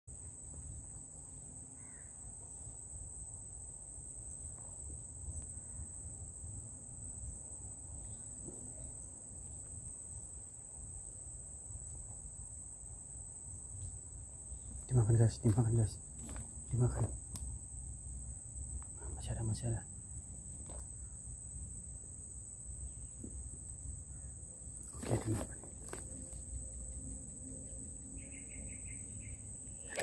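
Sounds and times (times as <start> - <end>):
insects droning: 0.1 - 30.0.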